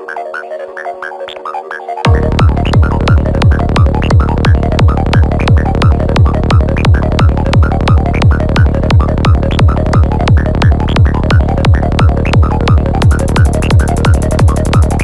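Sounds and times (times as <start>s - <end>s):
clicky percussion: 1.3s - 15.0s
kick drum: 2.1s - 15.0s
synth stabs: 2.1s - 15.0s.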